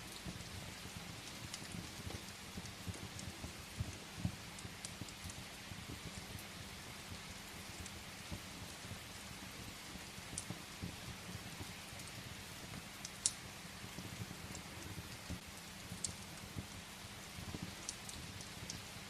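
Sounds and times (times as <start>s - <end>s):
firewood crackling in fireplace: 0.0s - 19.0s
steady rain hiss: 0.0s - 19.0s.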